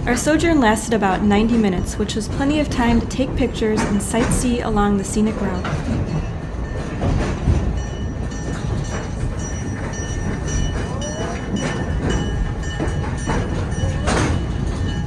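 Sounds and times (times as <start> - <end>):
clicks and knocks of wheels: 0.0 - 15.0
train rumbling on track: 0.0 - 15.0.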